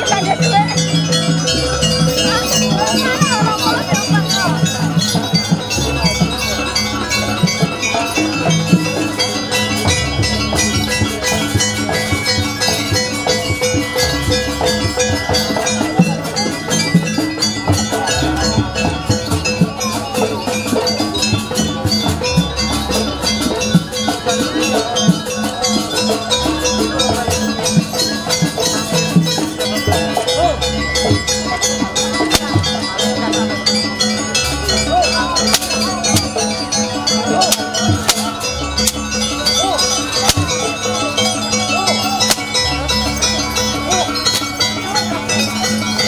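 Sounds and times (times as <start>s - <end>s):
gamelan ensemble playing: 0.0s - 46.0s.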